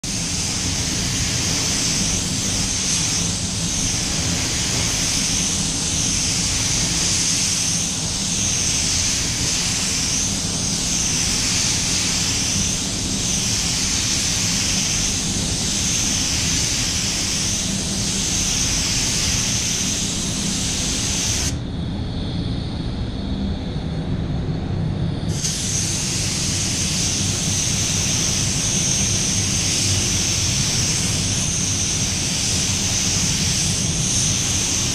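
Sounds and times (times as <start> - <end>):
spray gun air hissing: 0.0 - 21.6, 25.3 - 34.9
low ventilation rumble: 0.0 - 34.9.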